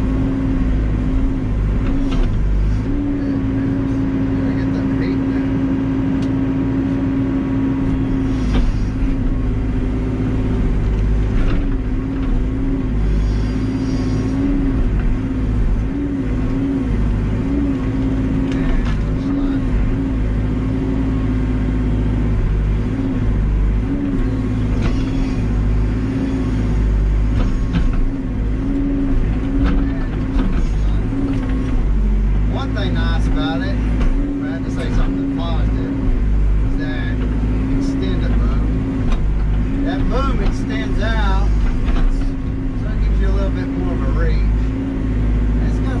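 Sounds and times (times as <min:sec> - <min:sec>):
diesel engine working: 0:00.0 - 0:46.0.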